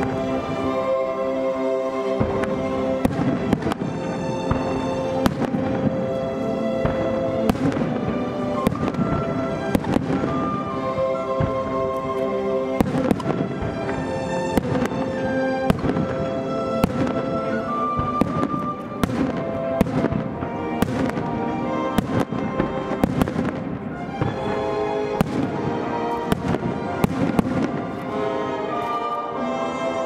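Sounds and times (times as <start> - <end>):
background music: 0.0 - 30.0.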